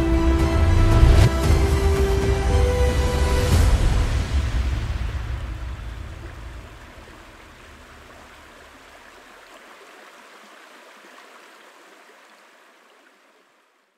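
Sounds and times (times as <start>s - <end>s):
running water rushing: 0.0s - 13.9s.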